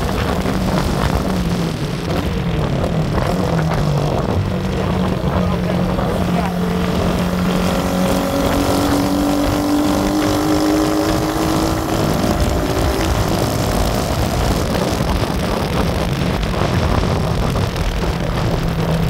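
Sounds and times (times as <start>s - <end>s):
vehicle engine running: 0.0s - 19.0s
wind rush on microphone: 0.0s - 19.0s.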